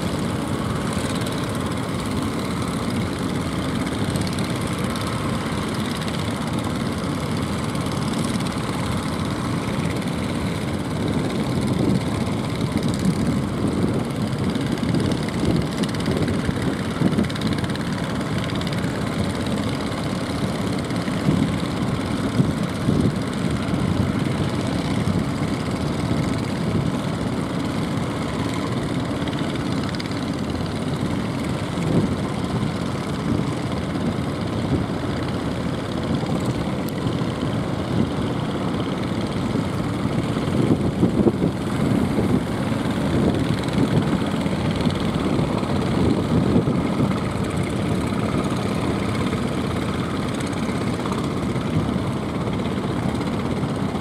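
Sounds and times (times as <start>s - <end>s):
boat engines running: 0.0s - 54.0s.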